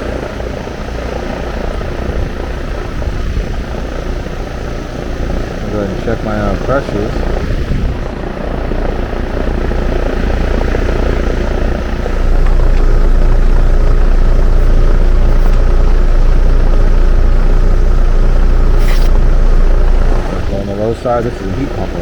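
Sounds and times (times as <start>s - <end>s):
heat pump fan and compressor hum: 0.0s - 22.0s.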